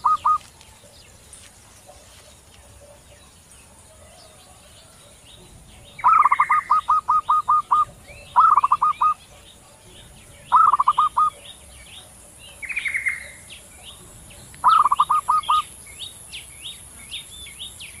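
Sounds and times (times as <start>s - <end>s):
doves cooing trills: 0.0s - 1.2s, 1.9s - 15.8s
small birds chirping: 0.0s - 18.0s.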